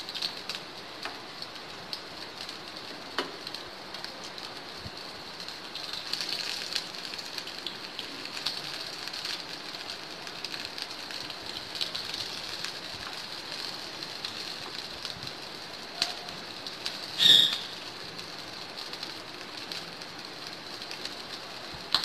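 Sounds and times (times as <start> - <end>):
patties sizzling in oil: 0.0 - 22.0.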